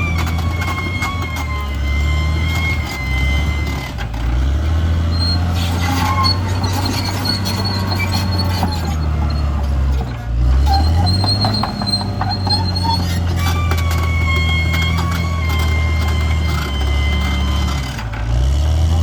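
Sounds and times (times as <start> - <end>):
bulldozer diesel engine running: 0.0 - 19.0
steel tracks squealing and clanking: 0.0 - 19.0.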